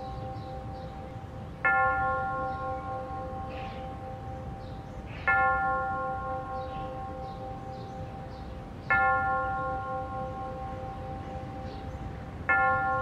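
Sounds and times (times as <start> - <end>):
church bell tolling: 0.0 - 13.0.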